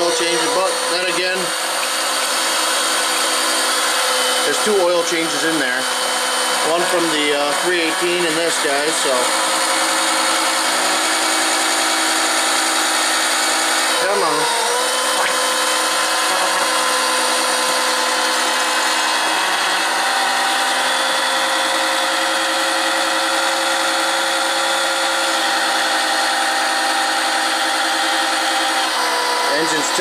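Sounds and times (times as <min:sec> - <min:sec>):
oil pump motor whine: 0:00.0 - 0:30.0.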